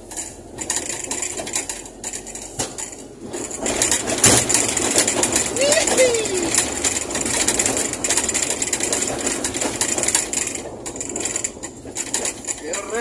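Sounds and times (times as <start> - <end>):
fast mechanical rattling: 0.0 - 13.0
race car engine running: 0.0 - 13.0.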